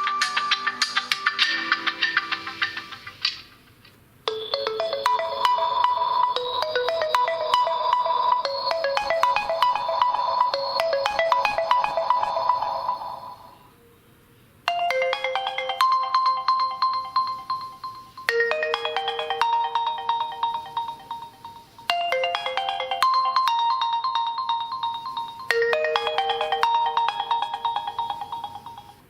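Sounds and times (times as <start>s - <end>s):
bell-like ringtone melody: 0.0s - 3.2s, 4.3s - 13.6s, 14.7s - 29.0s.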